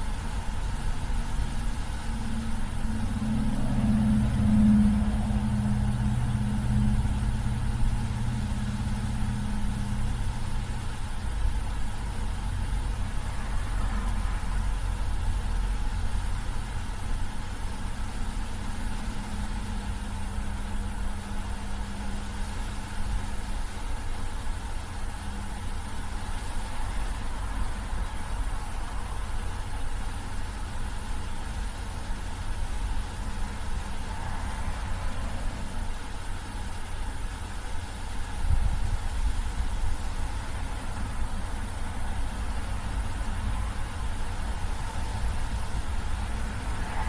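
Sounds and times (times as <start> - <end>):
car engine rumble: 0.0 - 47.0.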